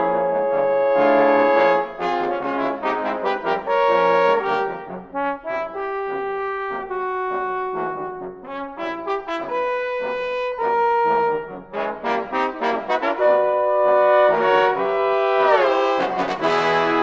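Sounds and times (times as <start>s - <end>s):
trombone ensemble playing: 0.0s - 17.0s.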